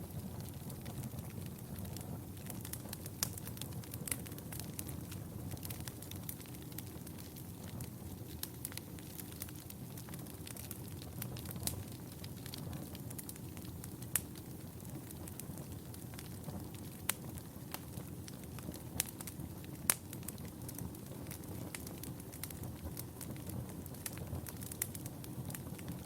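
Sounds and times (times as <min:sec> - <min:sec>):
fire flames rumbling: 0:00.0 - 0:26.0
wood fire popping and crackling: 0:00.0 - 0:26.0.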